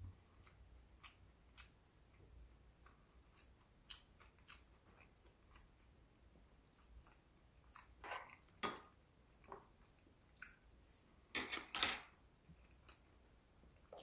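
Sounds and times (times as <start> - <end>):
soft chewing: 0.1 - 10.9, 12.4 - 14.0.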